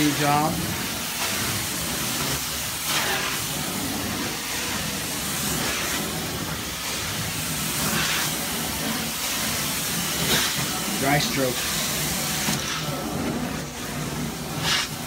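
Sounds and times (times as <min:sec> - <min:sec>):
carpet cleaning wand hissing: 0:00.0 - 0:15.0.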